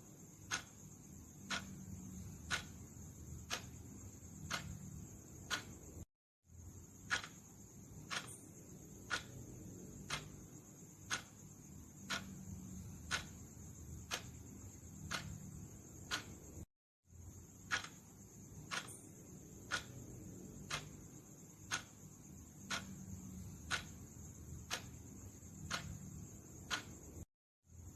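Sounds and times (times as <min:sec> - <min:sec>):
steady hiss: 0:00.0 - 0:27.9
clock ticking: 0:00.1 - 0:06.0, 0:07.0 - 0:16.7, 0:17.5 - 0:27.3.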